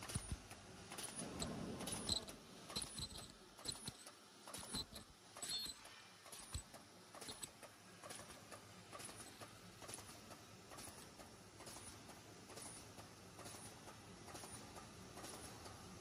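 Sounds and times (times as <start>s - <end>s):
faint machine clicks: 0.0s - 16.0s
low steady machine hum: 0.0s - 16.0s.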